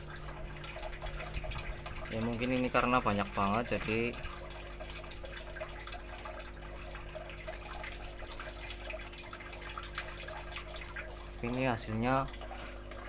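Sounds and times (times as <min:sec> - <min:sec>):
steady low hum: 0:00.0 - 0:13.0
water dripping and trickling: 0:00.0 - 0:13.0.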